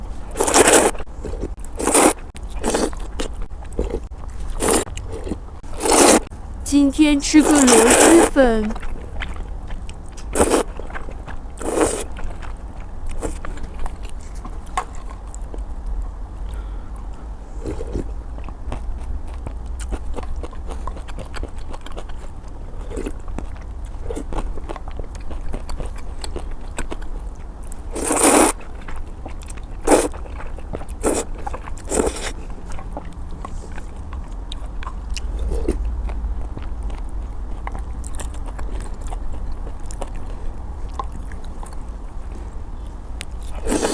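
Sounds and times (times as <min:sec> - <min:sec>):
person chewing noodles: 0:00.0 - 0:06.3, 0:07.4 - 0:43.9
steady low hum: 0:00.0 - 0:43.9.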